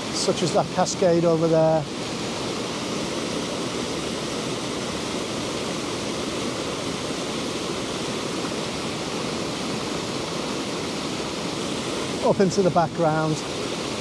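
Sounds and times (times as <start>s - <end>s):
creek water rushing over rocks: 0.0s - 14.0s.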